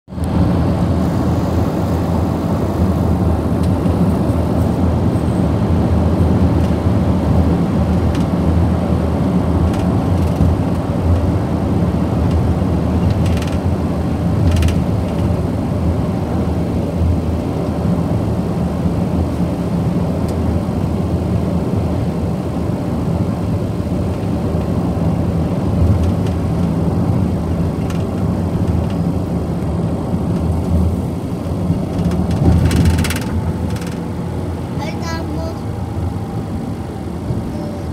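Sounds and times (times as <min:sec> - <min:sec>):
car cabin road rumble: 0:00.1 - 0:37.9.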